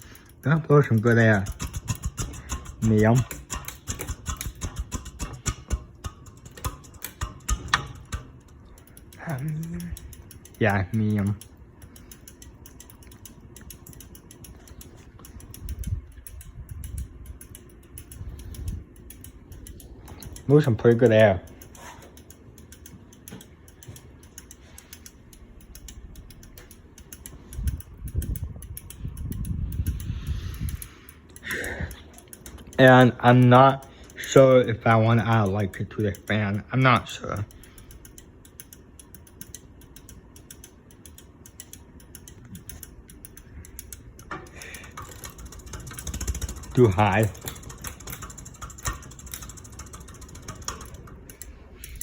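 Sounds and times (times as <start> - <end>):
quick uneven clicking: 0.0 - 36.6, 37.2 - 52.0
ceiling fan low rumble: 0.0 - 52.0.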